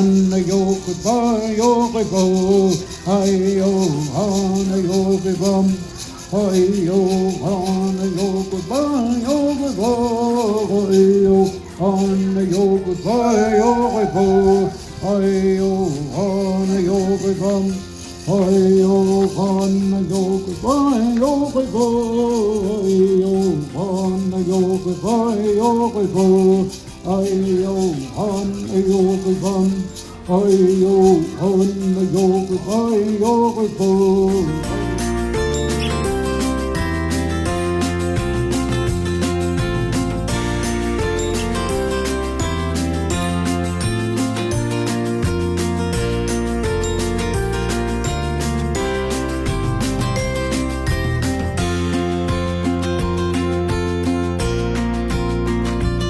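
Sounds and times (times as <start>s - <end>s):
song with sung melody: 0.0s - 54.7s.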